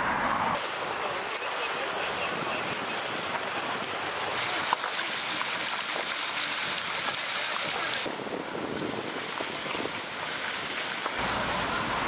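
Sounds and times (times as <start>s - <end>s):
floodwater rushing and splashing: 0.6s - 12.0s.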